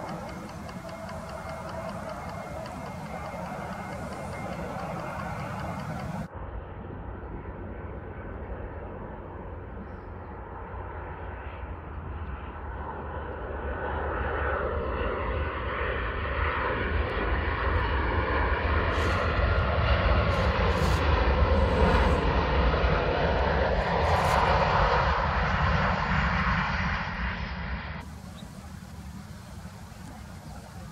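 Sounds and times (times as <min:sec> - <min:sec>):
approaching jet: 0:00.0 - 0:30.9
jet airliner engines droning: 0:00.0 - 0:30.9.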